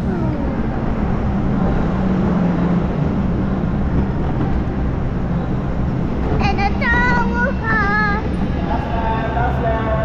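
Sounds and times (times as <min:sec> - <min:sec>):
vehicle running hum: 0:00.0 - 0:09.9
rushing road noise: 0:00.0 - 0:10.0.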